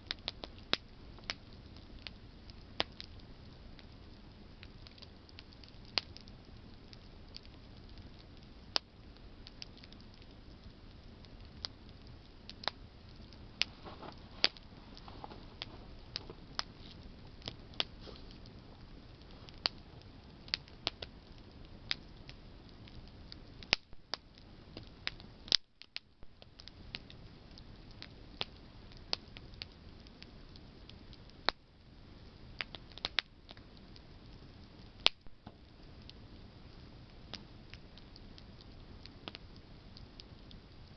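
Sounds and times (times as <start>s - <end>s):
campfire crackling and popping: 0.0s - 40.9s
low steady fire hiss: 0.0s - 40.9s.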